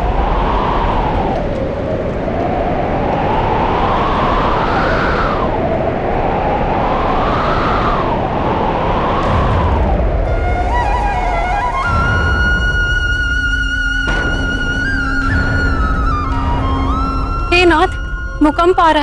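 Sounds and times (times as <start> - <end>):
rushing rumbling ground shaking: 0.0 - 19.0.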